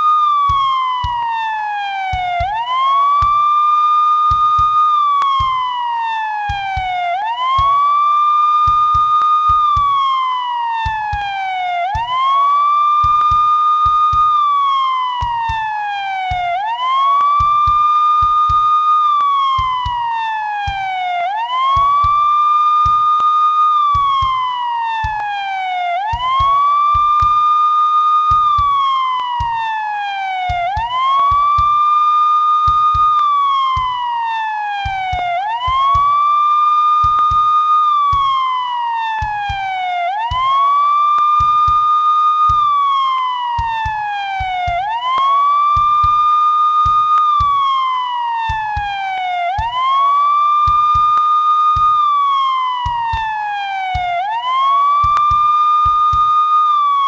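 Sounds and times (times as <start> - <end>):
police siren wailing: 0.0 - 57.0.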